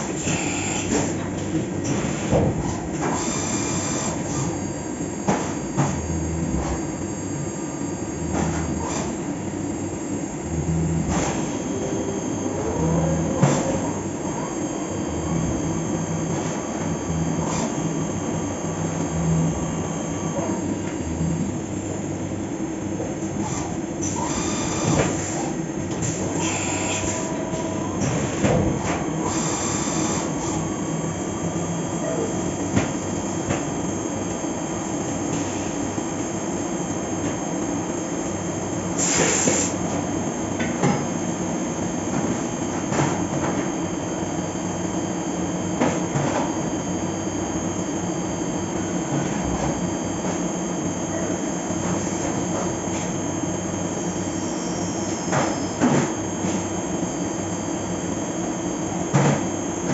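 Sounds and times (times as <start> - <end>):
milling machine hum: 0.0 - 59.9.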